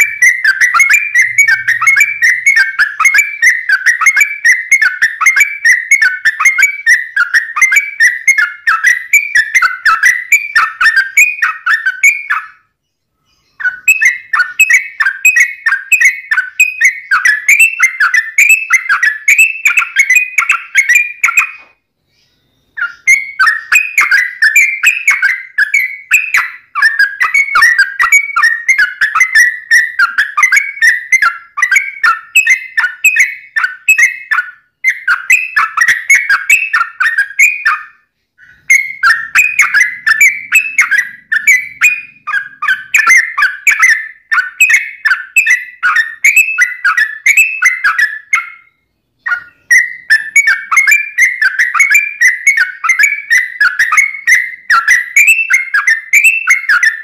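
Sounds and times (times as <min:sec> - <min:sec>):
bird singing whistled warbling notes: 0:00.0 - 0:57.0.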